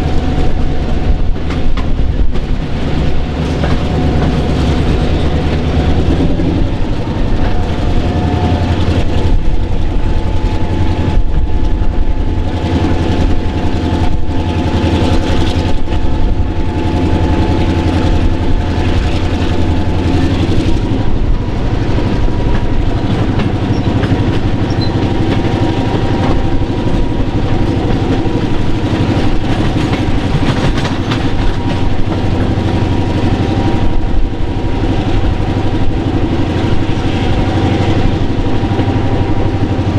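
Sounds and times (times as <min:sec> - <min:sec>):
train engine drone: 0:00.0 - 0:39.9
wheels clattering over rails: 0:00.0 - 0:39.9.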